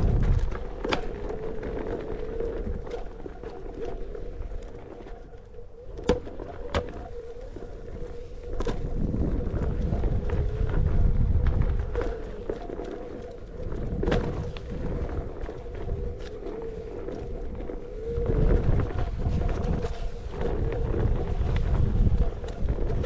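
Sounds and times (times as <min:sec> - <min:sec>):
tyre rolling on dirt: 0:00.0 - 0:04.8, 0:06.1 - 0:23.0.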